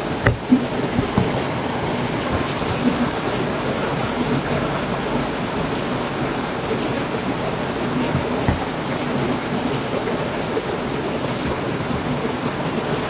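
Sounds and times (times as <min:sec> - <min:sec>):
heavy rain hissing: 0:00.0 - 0:13.0
rain drop impacts: 0:00.0 - 0:13.0.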